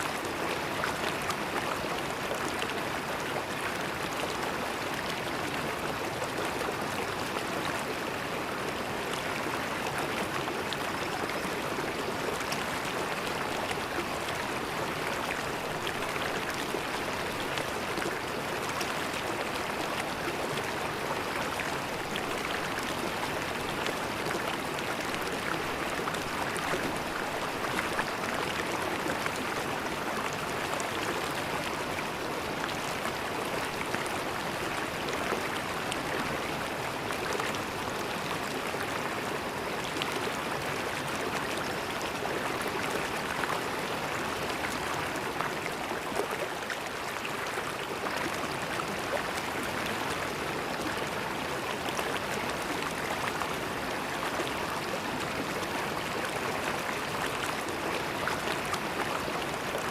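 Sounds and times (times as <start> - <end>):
river water flowing over stones: 0.0 - 59.9.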